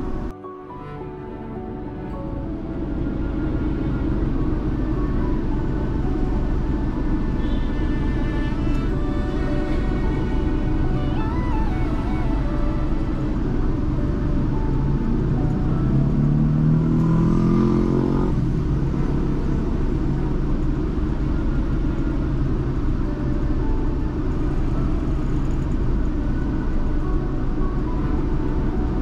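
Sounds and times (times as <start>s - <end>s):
car and road noise rumble: 0.0s - 29.0s
vehicle engine accelerating: 0.0s - 29.0s.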